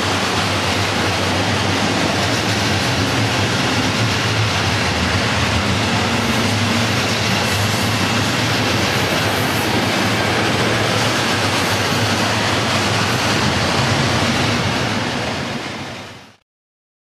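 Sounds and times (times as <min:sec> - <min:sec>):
steel wheels running on rails: 0:00.0 - 0:16.4.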